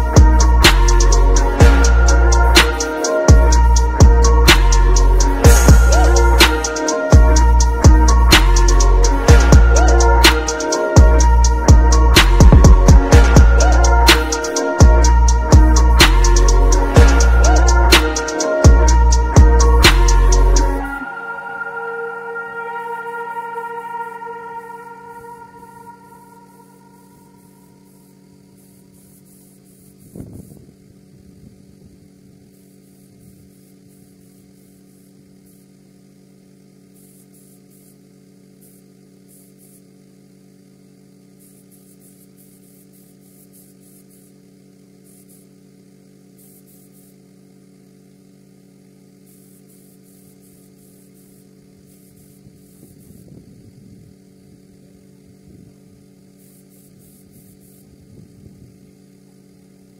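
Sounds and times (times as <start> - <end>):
paint spray gun hissing: 0.0 - 21.0, 26.4 - 59.9
air compressor humming: 0.0 - 59.9.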